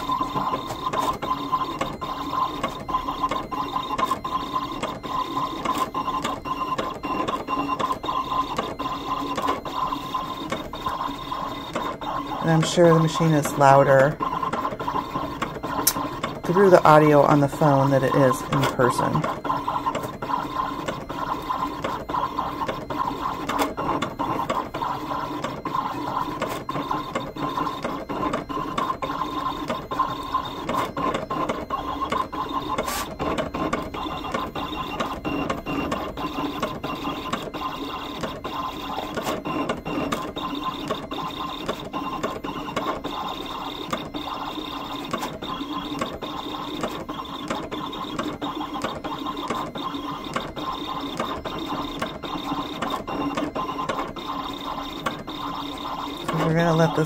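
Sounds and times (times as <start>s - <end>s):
cutting machine motor whir: 0.0s - 57.0s.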